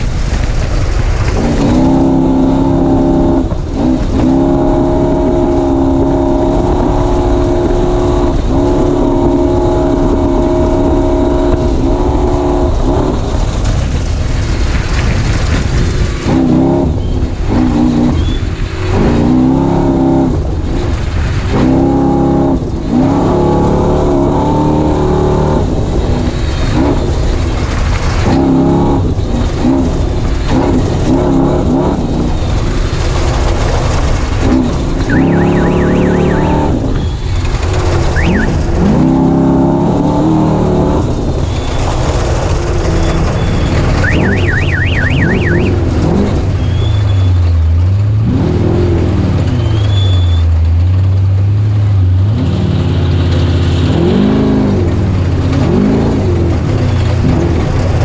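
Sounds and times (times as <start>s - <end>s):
race vehicle engine revving: 0.0s - 58.0s.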